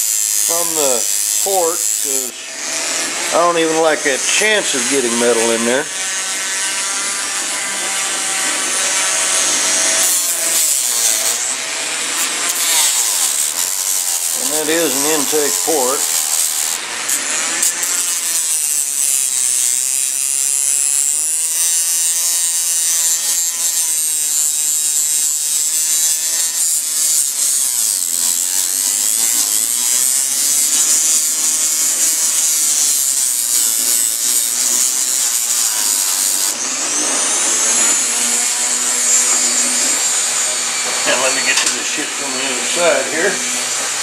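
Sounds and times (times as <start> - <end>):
rotary tool grinding metal: 0.0 - 44.0.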